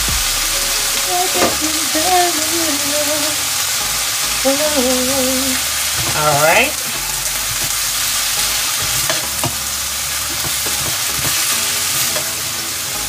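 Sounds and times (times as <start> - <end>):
vegetables sizzling in a pan: 0.3 - 13.0.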